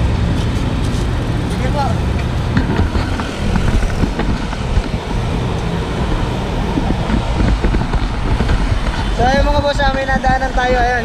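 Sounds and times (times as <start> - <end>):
road traffic: 0.0 - 11.0
wind noise on microphone: 0.0 - 11.0.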